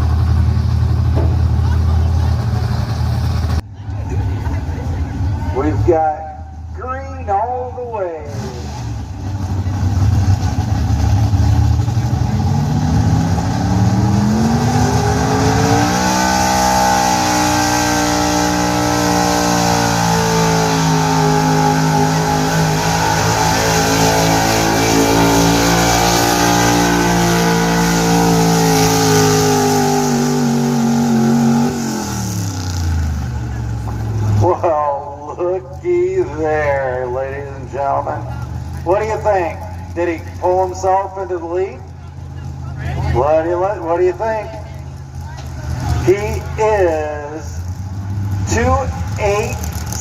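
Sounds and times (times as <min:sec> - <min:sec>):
truck engine at full throttle: 0:00.0 - 0:50.0.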